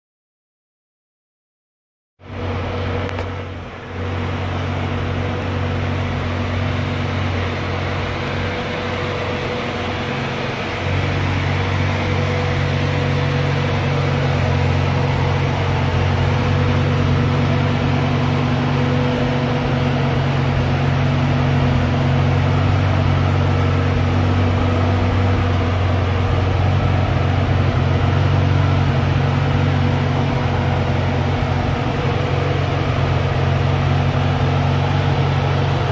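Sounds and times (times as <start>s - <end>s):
car engine idling: 2.2s - 35.9s.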